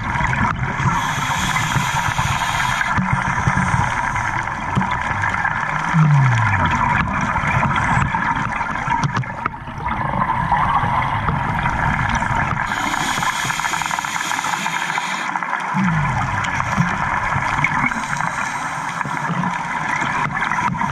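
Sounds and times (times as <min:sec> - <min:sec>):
bright bubbling hiss: 0:00.0 - 0:08.8, 0:11.6 - 0:20.0
underwater bubbles rumble and hiss: 0:00.0 - 0:20.9.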